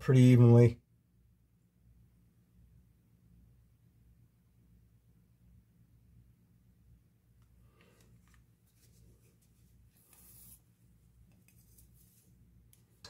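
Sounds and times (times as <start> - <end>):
low steady hum: 0.1 - 13.0.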